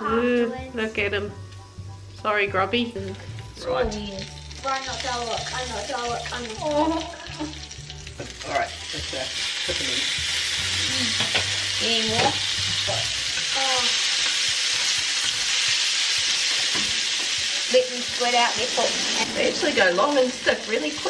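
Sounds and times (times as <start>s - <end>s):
grubs sizzling in butter: 2.8s - 21.0s.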